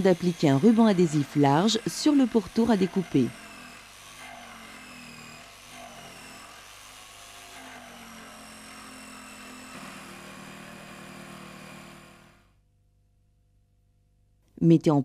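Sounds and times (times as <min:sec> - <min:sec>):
electric jigsaw cutting: 0:00.0 - 0:12.6.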